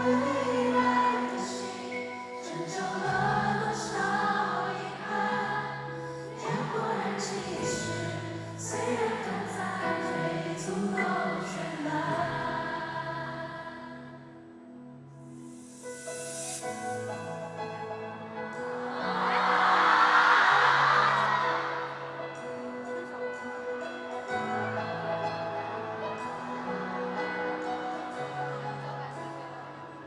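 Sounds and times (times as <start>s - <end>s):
live pop concert music: 0.0s - 13.0s, 15.4s - 30.0s
choir-like voices: 0.0s - 14.6s, 18.4s - 30.0s.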